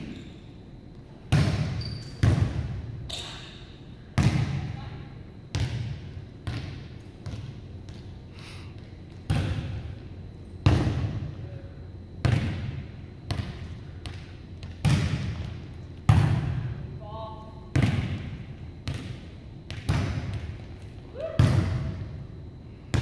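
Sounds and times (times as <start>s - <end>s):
volleyball bouncing on gym floor: 1.2s - 4.9s, 5.5s - 8.2s, 8.8s - 11.3s, 12.2s - 22.2s.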